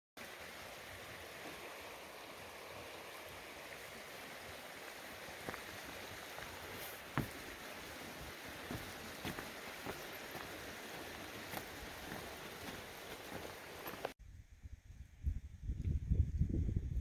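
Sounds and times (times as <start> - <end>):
flowing water: 0.2 - 14.2.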